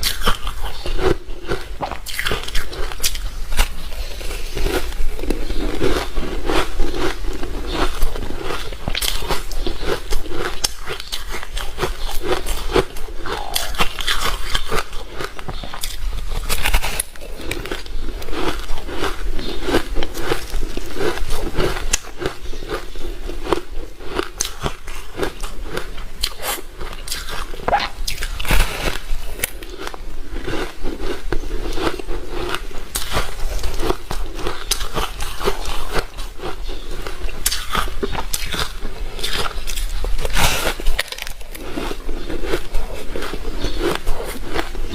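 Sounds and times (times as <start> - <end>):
person crunching ice: 0.0 - 44.9.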